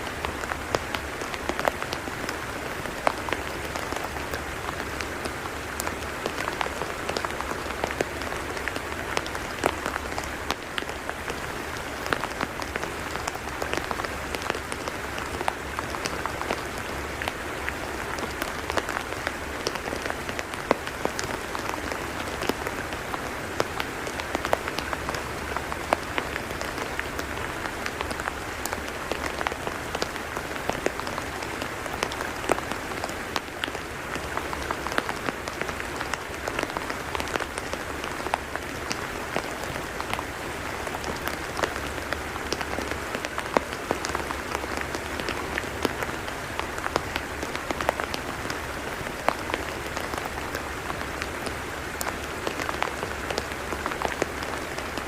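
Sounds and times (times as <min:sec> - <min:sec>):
steady rain on wet mud: 0:00.0 - 0:55.0.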